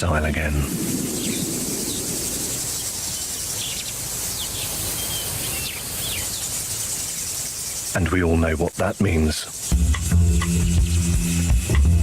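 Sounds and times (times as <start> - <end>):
bird chirps: 0.0 - 12.0
high insect drone: 0.0 - 12.0.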